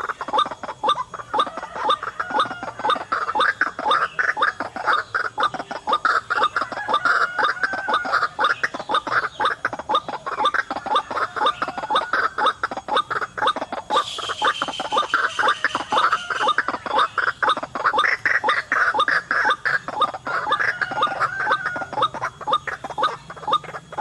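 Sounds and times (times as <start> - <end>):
bird harsh clucking calls: 0.0 - 24.0.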